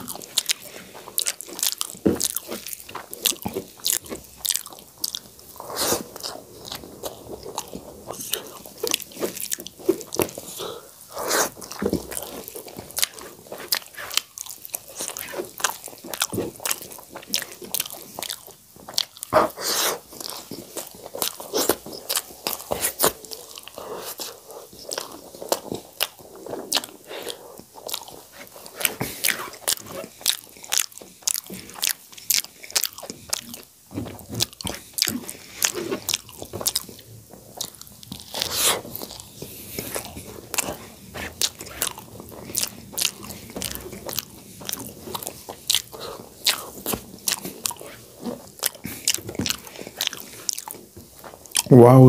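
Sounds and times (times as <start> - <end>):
close chewing with mouth clicks: 0.0 - 51.7.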